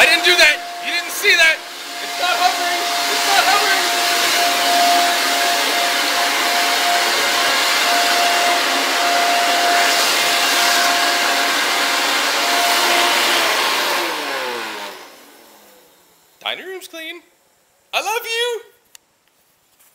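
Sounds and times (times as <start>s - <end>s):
electric air blower whining: 0.0s - 16.4s.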